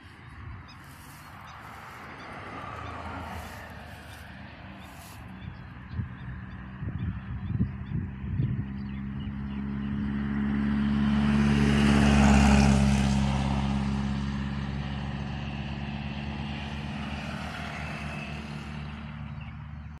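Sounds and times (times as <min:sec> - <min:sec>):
vehicle passing by: 0:00.0 - 0:20.0.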